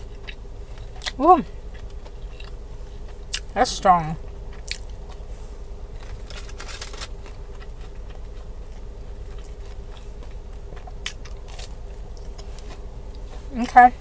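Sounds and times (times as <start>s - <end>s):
person chewing crunchy food: 0.0s - 13.5s
low electrical hum: 0.0s - 14.0s.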